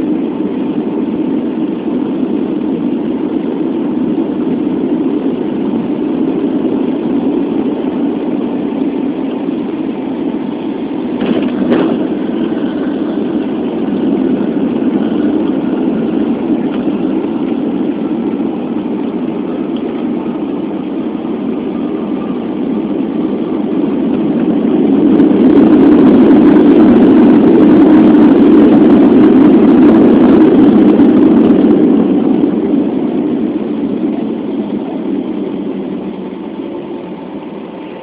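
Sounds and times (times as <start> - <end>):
jet engine noise in cabin: 0.0 - 38.0.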